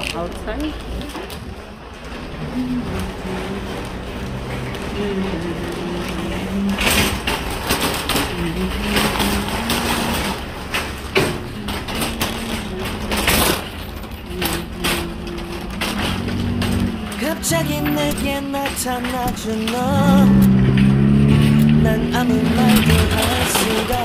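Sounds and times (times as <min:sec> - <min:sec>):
wire shopping cart rattling: 0:00.0 - 0:24.0
cart wheels knocking: 0:01.0 - 0:24.0.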